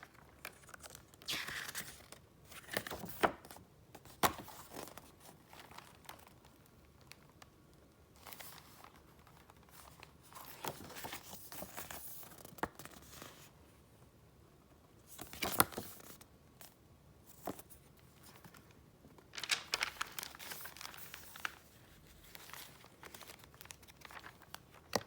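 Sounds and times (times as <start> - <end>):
paper rustling and crinkling: 0.0 - 7.2, 8.2 - 13.5, 17.3 - 25.0.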